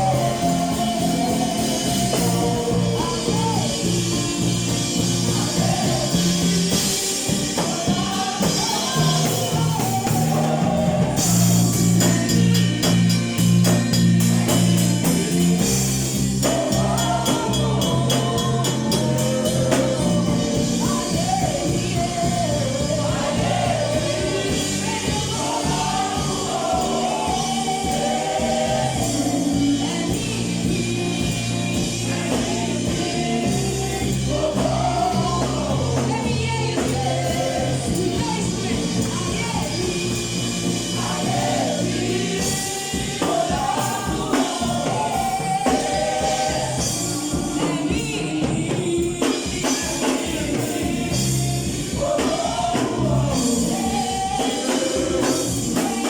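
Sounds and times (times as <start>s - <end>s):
held bass notes: 0.0s - 49.2s
choir singing: 0.0s - 56.0s
drums and cymbals: 0.0s - 56.0s.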